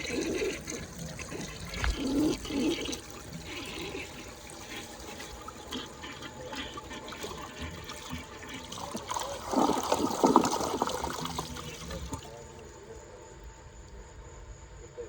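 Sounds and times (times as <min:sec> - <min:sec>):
toilet flushing: 0:00.0 - 0:13.0.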